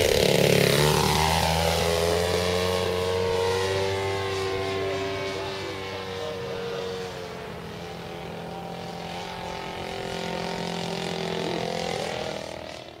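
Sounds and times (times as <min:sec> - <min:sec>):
model plane engine and propeller: 0:00.0 - 0:13.0.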